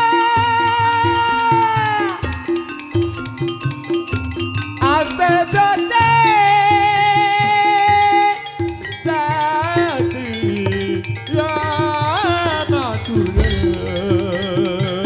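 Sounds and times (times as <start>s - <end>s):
metallophones struck: 0.0s - 15.0s
sliding wavering melody line: 0.0s - 15.0s.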